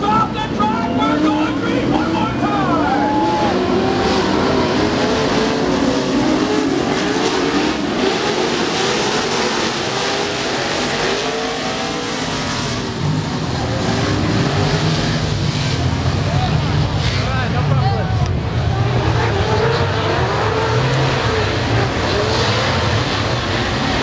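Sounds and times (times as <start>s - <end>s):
race truck engines revving: 0.0s - 24.0s
rush of noise: 0.0s - 24.0s.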